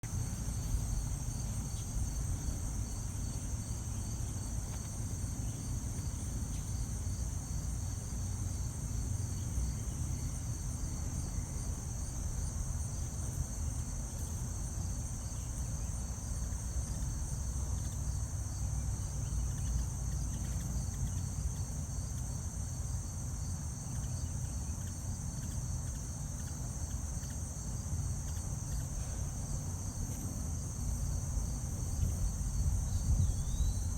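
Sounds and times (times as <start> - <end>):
constant low rumble: 0.0 - 33.9
crickets trilling: 0.0 - 33.9.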